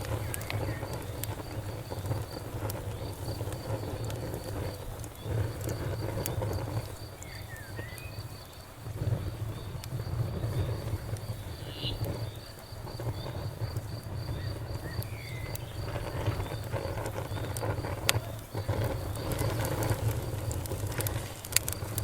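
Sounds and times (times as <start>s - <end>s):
campfire crackling: 0.0s - 22.0s
crickets chirping: 0.0s - 22.0s.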